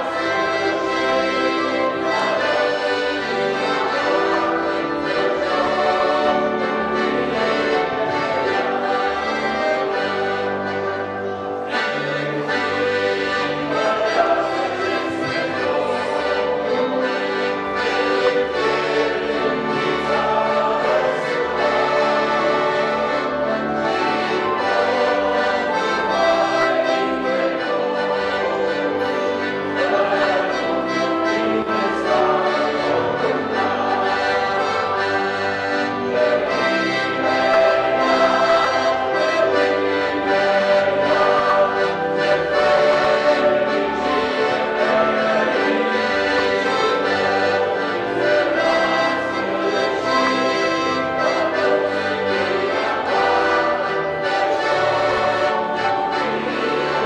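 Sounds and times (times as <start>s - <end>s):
men singing a hymn: 0.0s - 57.0s
piano accordion: 0.0s - 57.0s.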